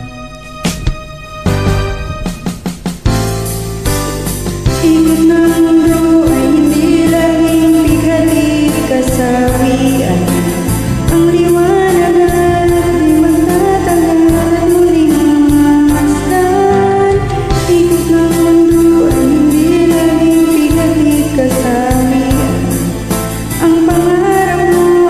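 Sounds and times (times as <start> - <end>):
karaoke backing track: 0.0 - 25.0
woman singing: 4.7 - 25.0.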